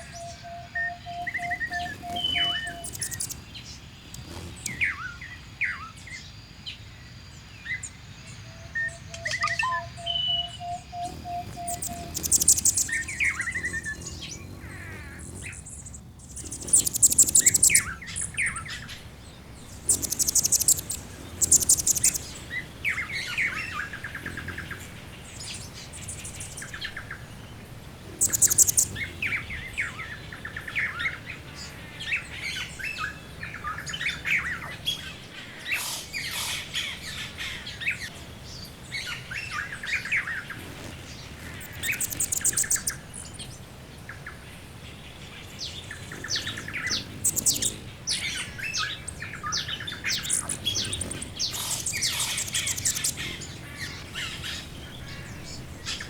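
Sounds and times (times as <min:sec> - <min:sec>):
high rapid bird trills: 0:00.0 - 0:05.9, 0:08.9 - 0:43.6, 0:45.2 - 0:56.0
birds chirping and singing: 0:00.0 - 0:06.2, 0:07.6 - 0:56.0.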